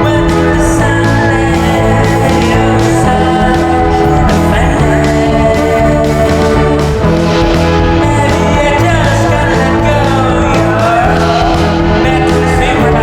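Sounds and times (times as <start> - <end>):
band playing a song: 0.0 - 13.0
person singing: 0.0 - 13.0.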